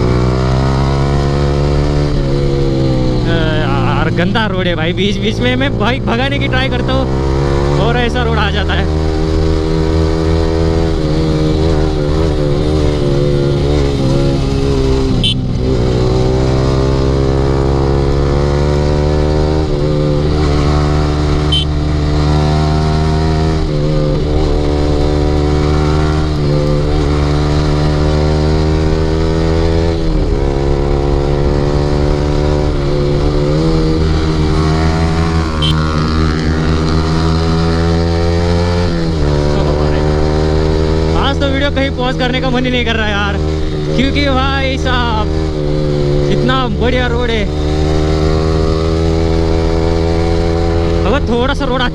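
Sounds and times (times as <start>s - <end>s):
low wind rumble: 0.0s - 51.9s
motorcycle engine revving: 0.0s - 51.9s.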